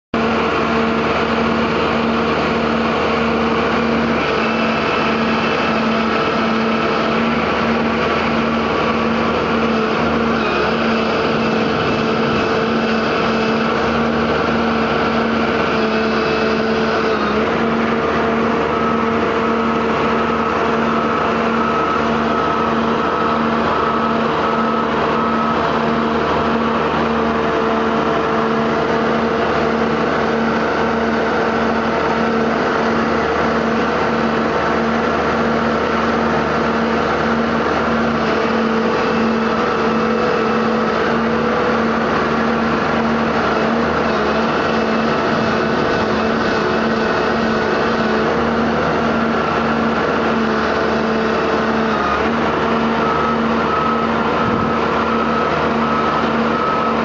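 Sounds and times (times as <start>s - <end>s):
harvester engine humming: 0.2s - 57.0s.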